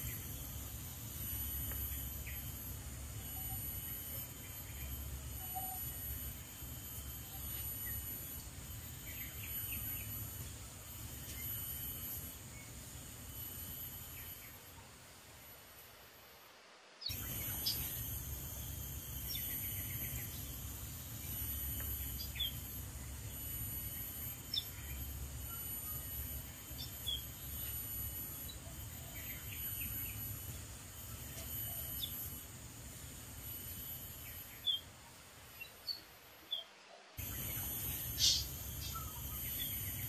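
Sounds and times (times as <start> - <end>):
high insect drone: 0.0 - 36.6, 37.2 - 40.0.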